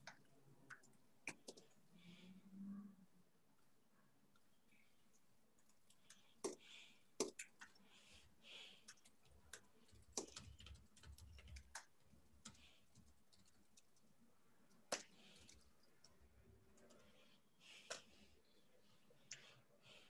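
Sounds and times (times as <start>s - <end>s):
faint irregular clicks and taps: 0.0s - 2.2s, 3.5s - 20.0s.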